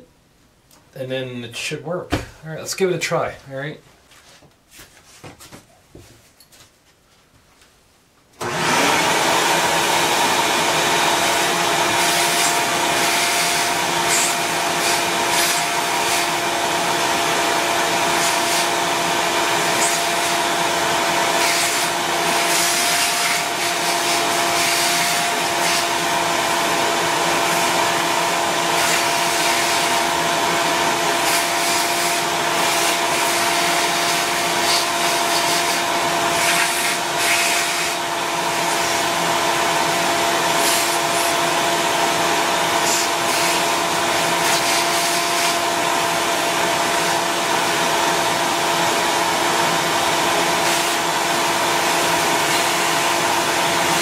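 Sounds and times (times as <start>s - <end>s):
shop vacuum motor whine: 8.4s - 54.0s.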